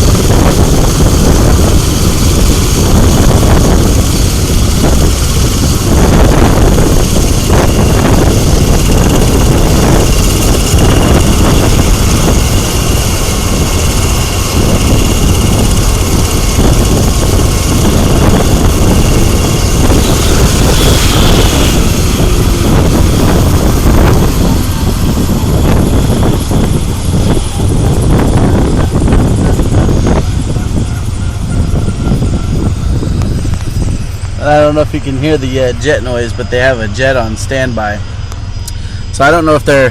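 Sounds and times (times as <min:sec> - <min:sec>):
helicopter rotor and engine noise: 0:00.0 - 0:39.9
thin high whine: 0:00.0 - 0:39.9.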